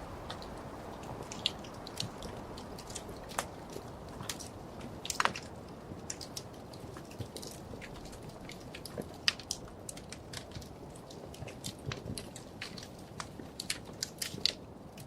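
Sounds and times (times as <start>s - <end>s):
fire burning rumble: 0.0s - 15.0s
fire popping and snapping: 0.0s - 15.0s.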